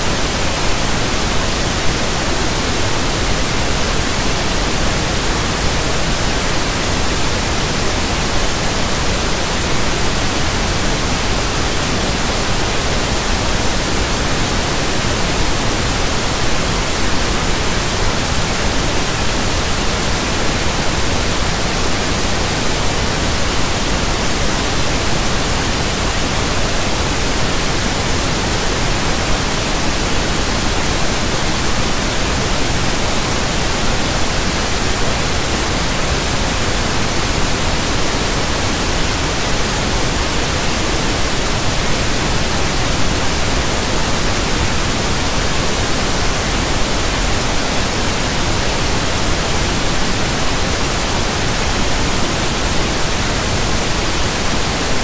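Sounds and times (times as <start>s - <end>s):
pink noise static hiss: 0.0s - 55.0s.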